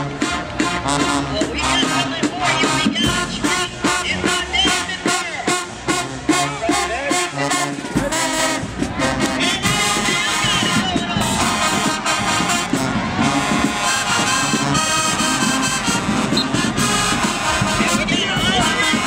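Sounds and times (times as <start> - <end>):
crowd noise: 0.0 - 19.0
marching band playing: 0.0 - 19.0.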